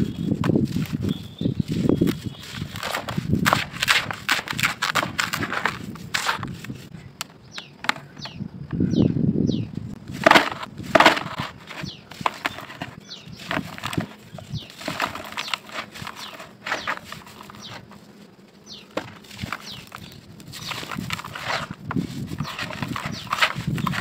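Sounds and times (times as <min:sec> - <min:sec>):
sand-cement chunks crunching by hand: 0:00.0 - 0:07.0, 0:10.0 - 0:24.0.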